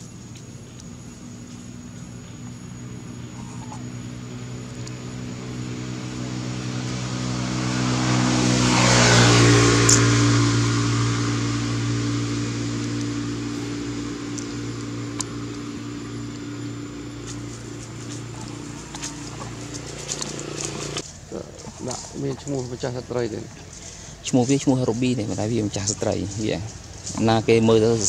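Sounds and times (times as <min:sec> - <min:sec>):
vehicle engine passing by: 0:01.7 - 0:28.0.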